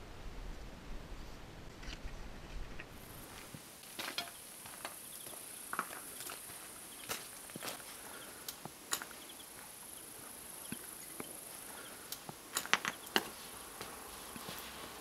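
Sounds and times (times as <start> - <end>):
footsteps through dry weeds: 2.9 - 15.0
insect buzz: 2.9 - 15.0.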